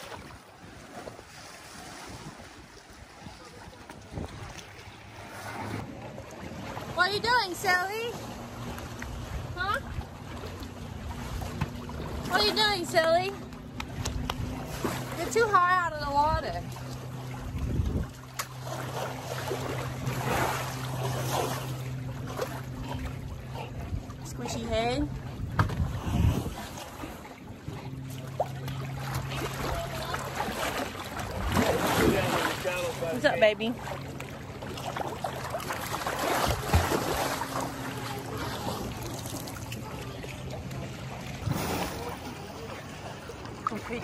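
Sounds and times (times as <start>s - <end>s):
steady low hum: 0.0s - 44.0s
water sloshing and splashing: 0.0s - 44.0s.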